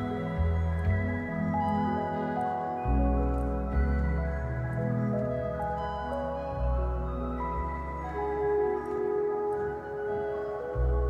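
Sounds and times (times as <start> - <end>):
gentle ambient music: 0.0 - 11.0.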